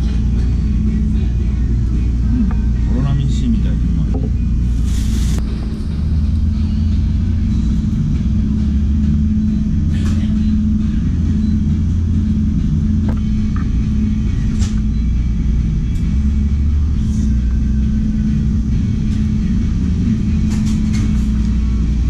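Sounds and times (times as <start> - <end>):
constant hum: 0.0 - 22.0
steady low rumble: 0.0 - 22.0.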